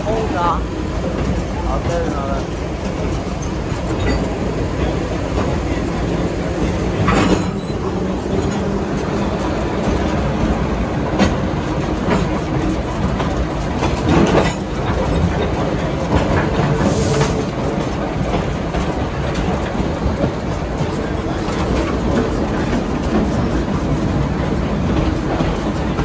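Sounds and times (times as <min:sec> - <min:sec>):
train wheels rumbling on rail: 0:00.0 - 0:26.0
wheels clunking over rail joints: 0:00.0 - 0:26.0.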